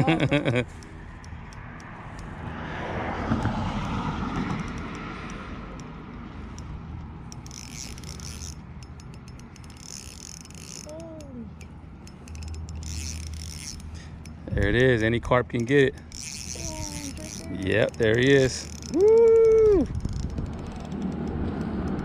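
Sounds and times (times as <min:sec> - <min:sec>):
fishing reel whirring and clicking: 0:00.6 - 0:02.5, 0:03.3 - 0:22.0.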